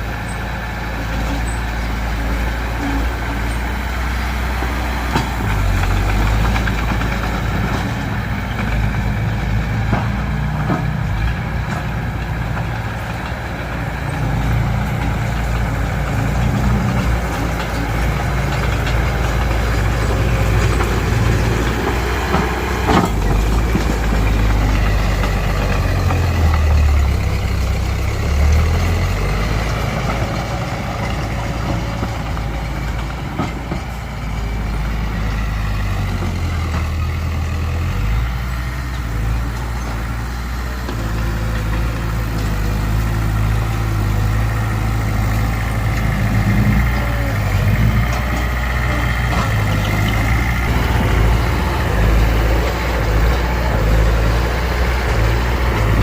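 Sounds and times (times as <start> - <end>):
heavy diesel engines working: 0.0 - 56.0.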